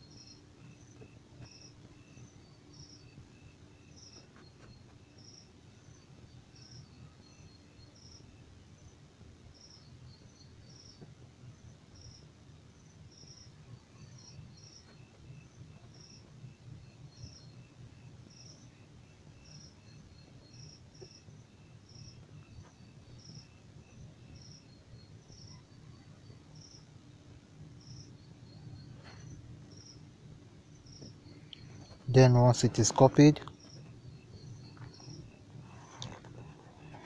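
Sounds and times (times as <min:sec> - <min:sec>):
insect chirping: 0:00.0 - 0:37.0
low background hum: 0:00.0 - 0:37.0.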